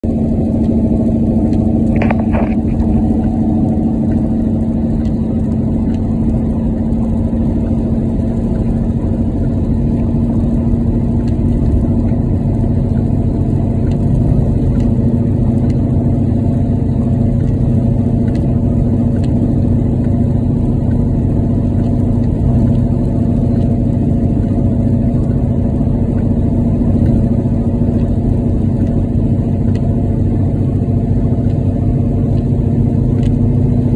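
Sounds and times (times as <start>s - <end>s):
car engine drone in cabin: 0.0s - 33.9s
tyres on wet road: 0.0s - 33.9s.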